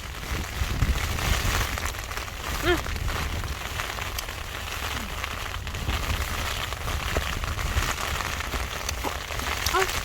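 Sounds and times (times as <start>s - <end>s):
rain pattering: 0.0s - 10.0s
wind rumbling on microphone: 0.0s - 10.0s.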